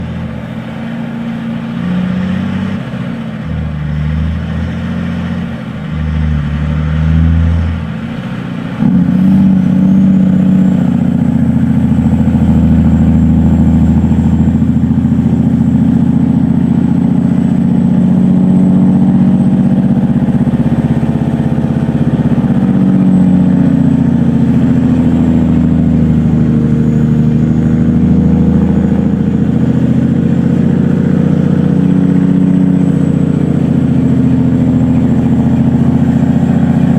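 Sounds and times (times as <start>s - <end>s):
truck diesel engine running: 0.0s - 36.9s.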